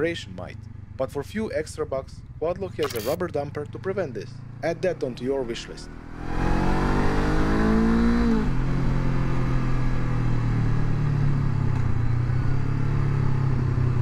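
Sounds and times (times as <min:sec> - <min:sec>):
motorcycle engine: 0:00.0 - 0:14.0.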